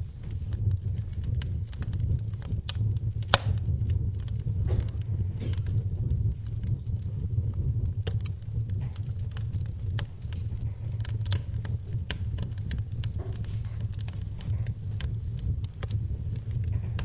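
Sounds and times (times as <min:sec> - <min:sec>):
rain pattering: 0:00.0 - 0:17.0
wood fire crackling: 0:00.0 - 0:17.0.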